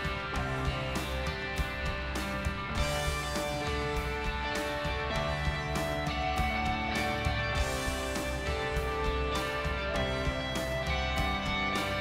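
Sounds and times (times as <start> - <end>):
background music with light beat: 0.0 - 12.0.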